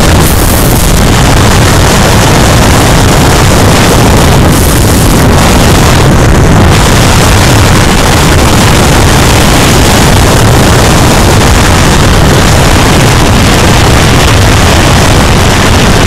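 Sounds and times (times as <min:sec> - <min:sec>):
motorcycle engine: 0:00.0 - 0:15.9
road noise rush: 0:00.0 - 0:16.0.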